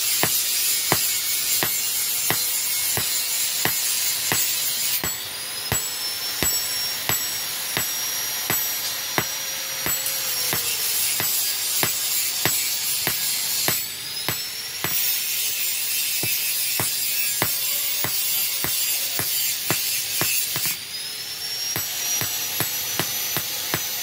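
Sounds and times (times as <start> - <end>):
hammer striking steel on anvil: 0.0 - 20.9, 21.7 - 24.0.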